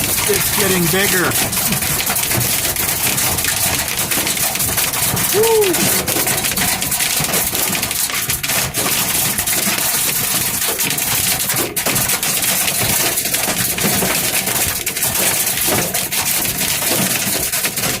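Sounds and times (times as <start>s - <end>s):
hail clattering on van roof: 0.0s - 18.0s.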